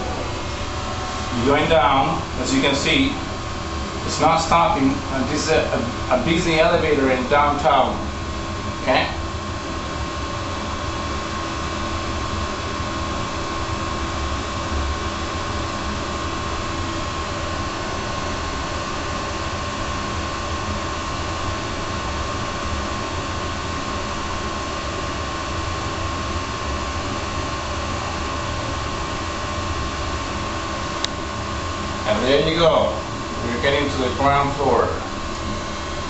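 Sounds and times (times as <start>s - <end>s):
elevator hum: 0.0s - 36.0s
elevator low rumble: 0.0s - 36.0s.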